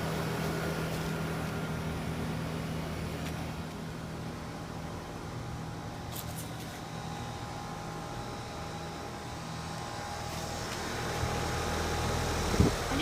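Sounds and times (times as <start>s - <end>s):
air conditioner units humming: 0.0s - 13.0s
faint steady whine: 0.0s - 13.0s.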